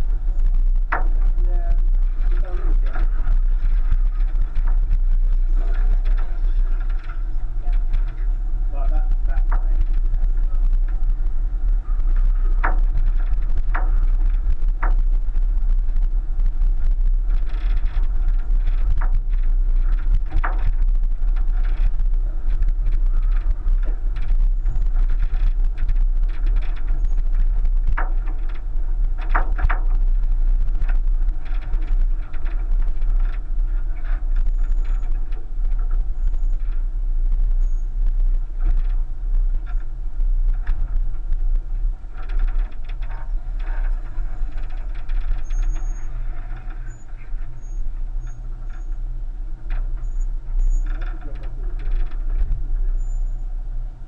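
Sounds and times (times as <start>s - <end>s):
vehicle low rumble: 0.0s - 54.0s.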